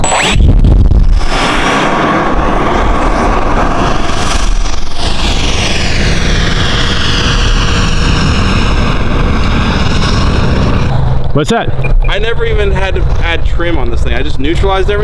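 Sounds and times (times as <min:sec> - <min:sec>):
model jet fan whining: 0:01.1 - 0:15.0.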